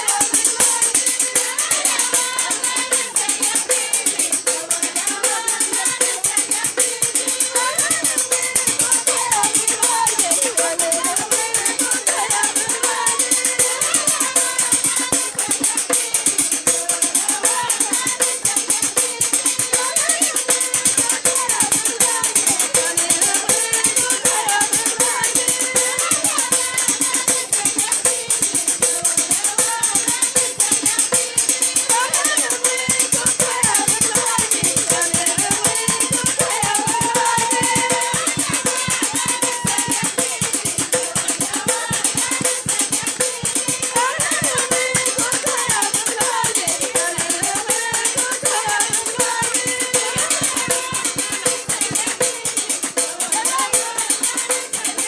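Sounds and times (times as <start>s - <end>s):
fast metallic percussion: 0.0s - 55.0s
women singing: 0.0s - 55.0s.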